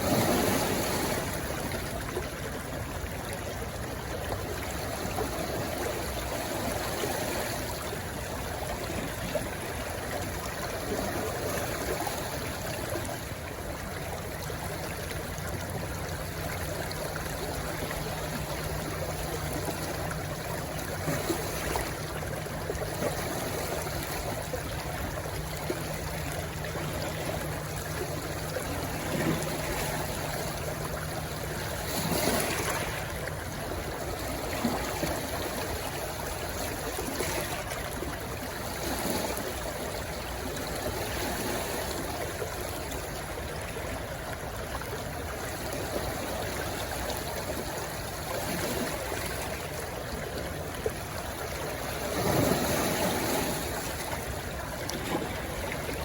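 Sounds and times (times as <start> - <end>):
stream rushing and gurgling: 0.0 - 56.0.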